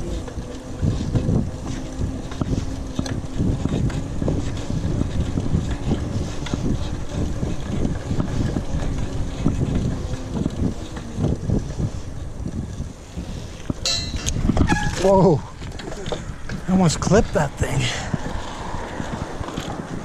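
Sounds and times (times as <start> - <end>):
bike knocking and rattling: 0.0 - 20.0
wind rumbling on microphone: 0.0 - 20.0.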